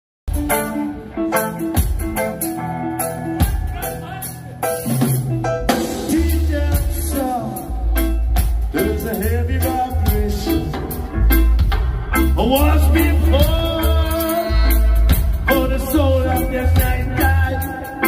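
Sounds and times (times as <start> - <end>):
heavy bass line: 0.3 - 18.0
live reggae band: 0.3 - 18.0.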